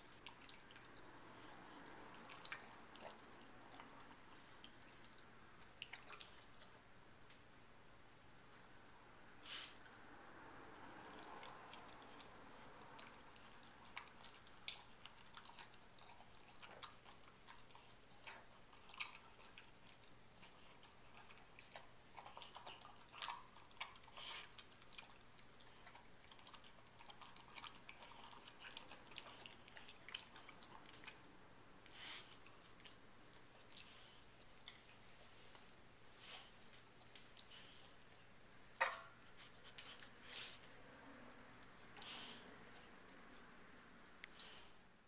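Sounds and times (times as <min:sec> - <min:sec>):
dog chewing and licking: 0:00.0 - 0:06.8, 0:10.8 - 0:43.6.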